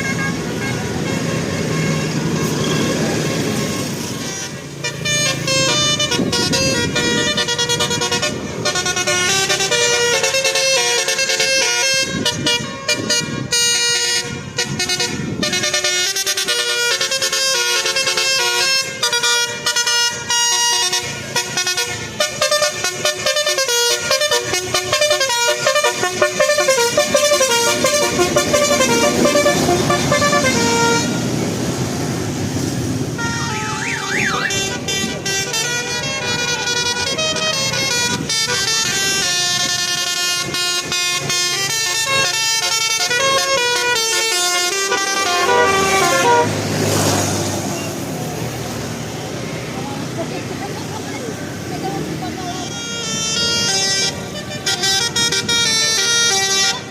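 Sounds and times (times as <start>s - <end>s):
tuned air horns playing tunes: 0.0s - 31.4s, 33.2s - 46.7s, 52.5s - 56.9s
engine noise: 0.0s - 56.9s.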